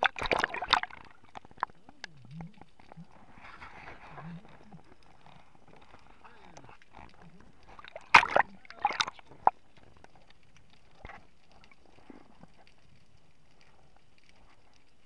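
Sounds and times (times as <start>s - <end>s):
faint steady hiss: 0.0s - 15.0s
underwater bubbles rushing: 0.0s - 15.0s.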